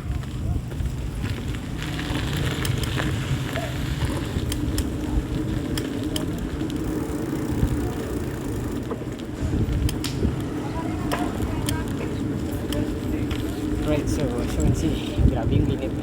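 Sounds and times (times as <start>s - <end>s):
bicycle rolling on road: 0.0s - 16.0s.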